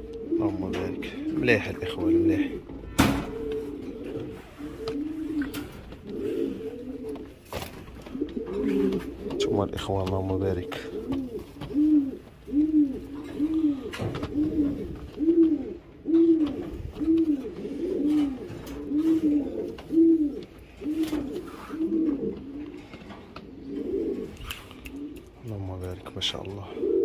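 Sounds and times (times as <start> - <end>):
pigeon cooing: 0.0 - 27.0.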